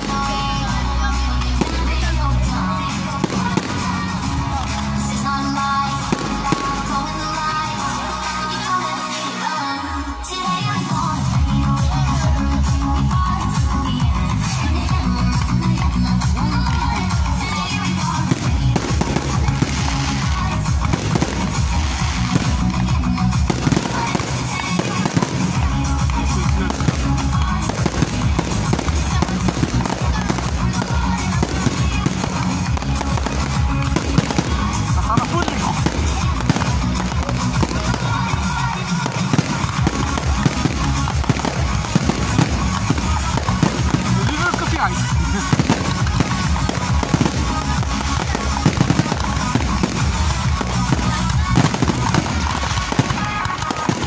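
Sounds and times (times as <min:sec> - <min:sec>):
electronic dance music: 0:00.0 - 0:54.0
fireworks bursting and crackling: 0:00.0 - 0:54.0.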